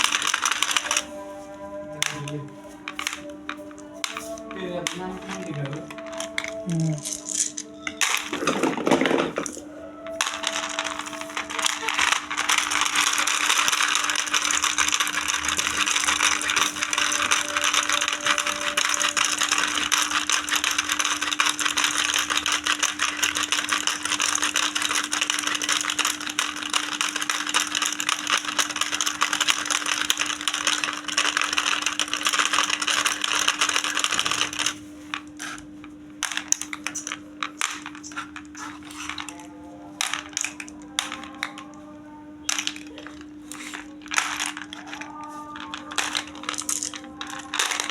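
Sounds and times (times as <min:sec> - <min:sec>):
faint steady hum: 0:00.0 - 0:47.9
plastic toy balls clattering: 0:00.0 - 0:47.9.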